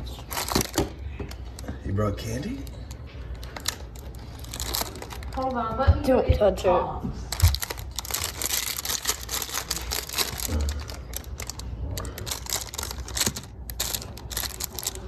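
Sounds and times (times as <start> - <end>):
plastic wrapper crinkling: 0.0 - 1.6, 2.2 - 5.6, 7.3 - 15.0.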